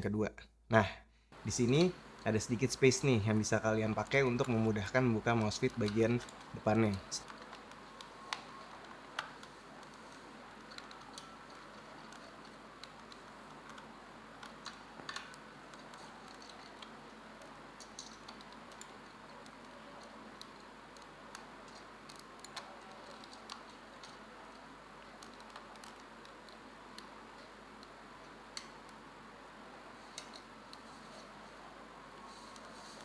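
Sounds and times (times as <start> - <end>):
steady low hiss: 0.0 - 33.0.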